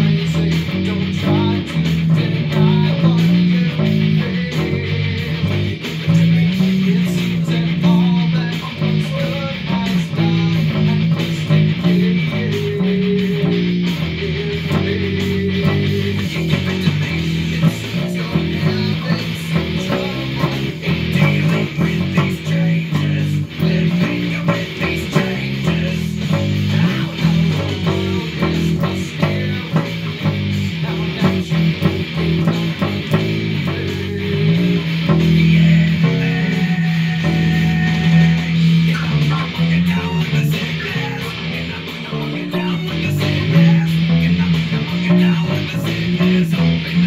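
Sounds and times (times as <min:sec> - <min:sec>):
bass guitar riff: 0:00.0 - 0:47.0
guitar: 0:00.0 - 0:47.0.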